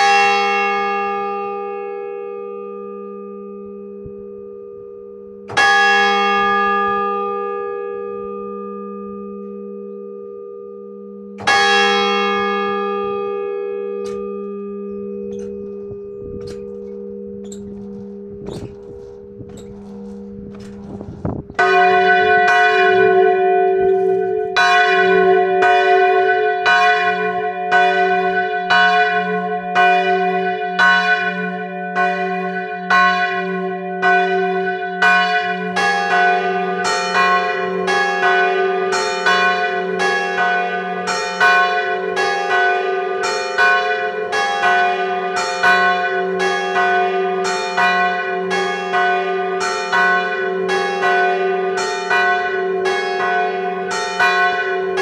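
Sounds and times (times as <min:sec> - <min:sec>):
church bell tolling: 0:00.0 - 0:55.0.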